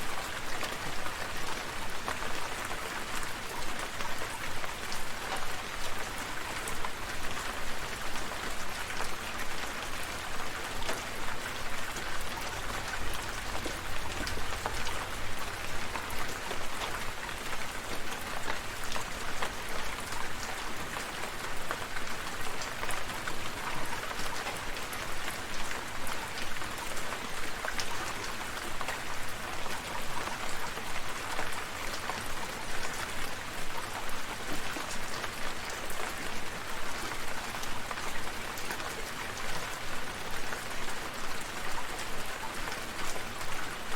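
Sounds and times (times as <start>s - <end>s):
rain drops pattering: 0.0s - 43.9s.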